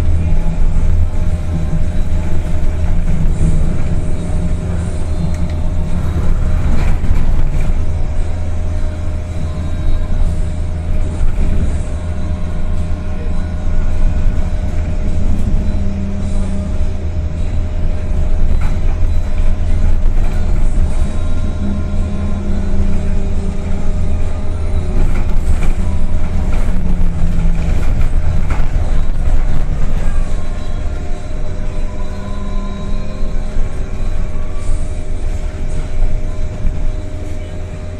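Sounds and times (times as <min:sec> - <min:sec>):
bus low rumble: 0:00.0 - 0:37.9.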